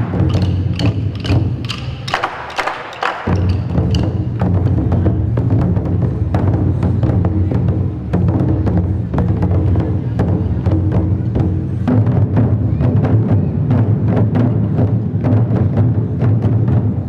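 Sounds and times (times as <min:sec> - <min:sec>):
big drums beaten fast: 0:00.0 - 0:17.0.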